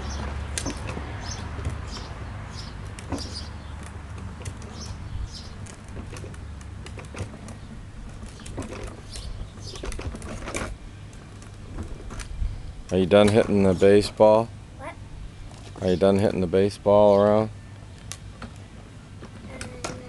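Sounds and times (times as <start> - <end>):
birds chirping: 0.0 - 14.5, 15.1 - 20.0.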